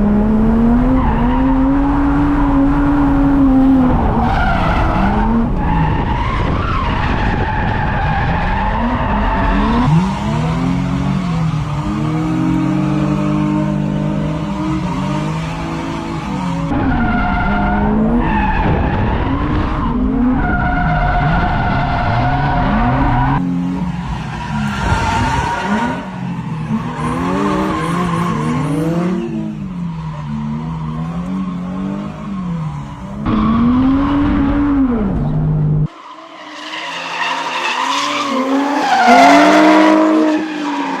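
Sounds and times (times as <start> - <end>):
car engine revving: 0.0 - 36.3, 36.9 - 41.0
tires squealing: 0.8 - 35.2, 35.9 - 41.0.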